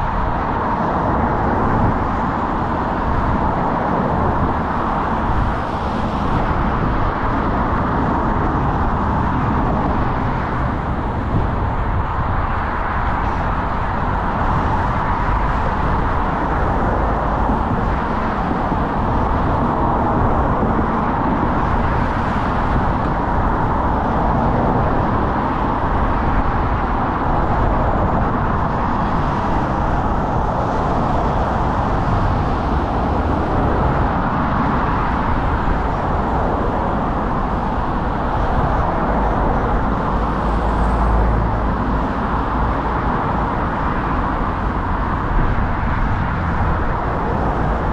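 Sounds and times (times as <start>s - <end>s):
tyre and road noise: 0.0s - 47.9s
wind rush on microphone: 0.0s - 47.9s.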